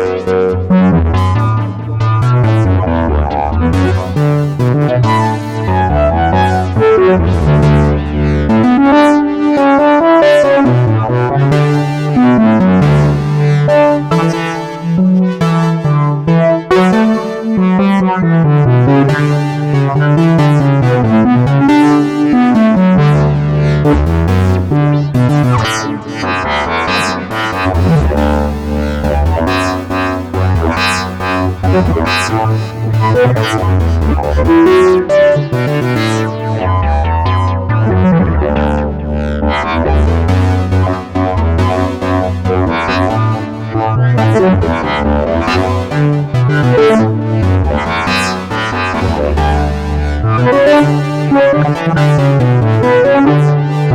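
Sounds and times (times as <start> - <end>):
synthesizer keyboard music: 0.0 - 53.9.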